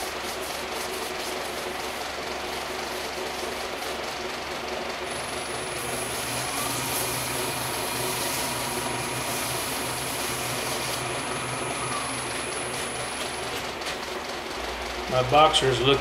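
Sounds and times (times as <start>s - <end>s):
cloth wiping spinning wood: 0.0s - 14.2s
wood lathe humming and whining: 0.0s - 16.0s.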